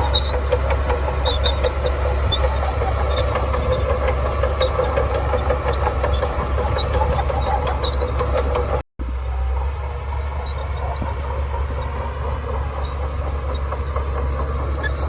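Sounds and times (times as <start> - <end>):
short high squeaks: 0.0 - 8.6, 10.3 - 15.0
bulldozer diesel engine droning: 0.0 - 15.0.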